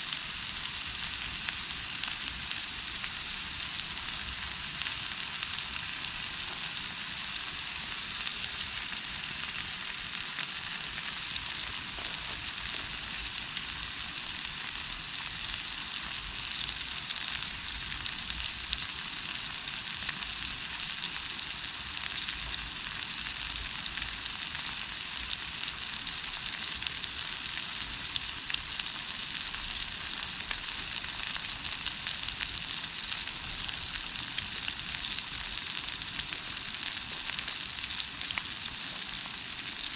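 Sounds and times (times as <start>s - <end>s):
meat sizzling over fire: 0.0s - 39.9s.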